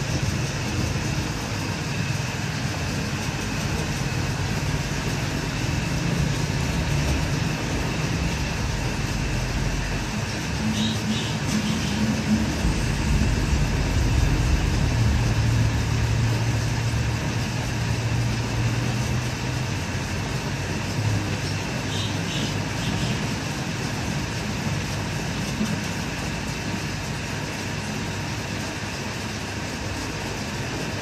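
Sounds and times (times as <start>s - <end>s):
gas rushing into cylinder: 0.0s - 27.1s.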